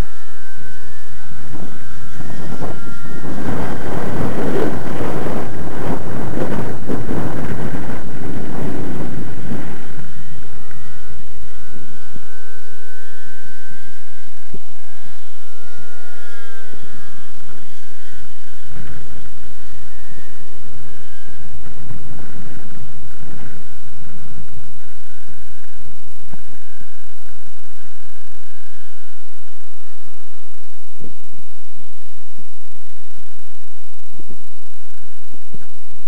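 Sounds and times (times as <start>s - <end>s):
model plane engine whine: 0.0s - 36.0s
wind buffeting microphone: 0.0s - 36.0s.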